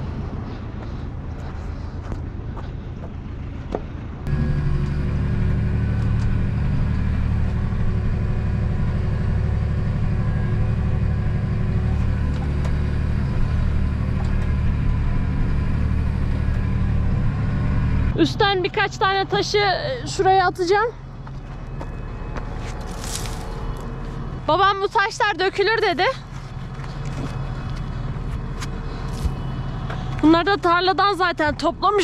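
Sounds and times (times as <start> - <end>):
faint wind: 0.0 - 32.0
tractor diesel engine running: 0.0 - 32.0.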